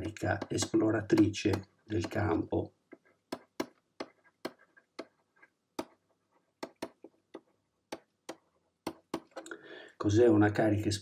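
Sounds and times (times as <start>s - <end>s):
stylus clicking on drawing tablet: 0.0s - 9.5s.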